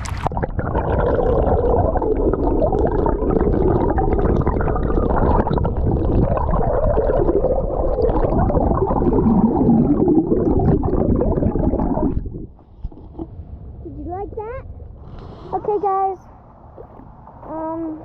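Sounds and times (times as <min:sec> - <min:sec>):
muffled underwater river rushing: 0:00.0 - 0:15.5.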